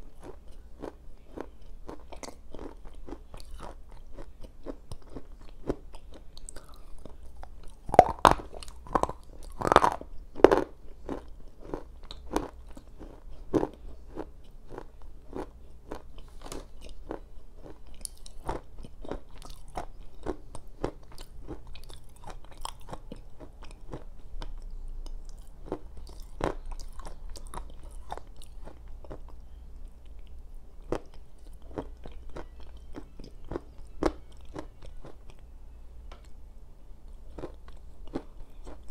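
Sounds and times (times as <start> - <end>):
soft chewing crackles: 0.0 - 35.5, 37.0 - 38.9.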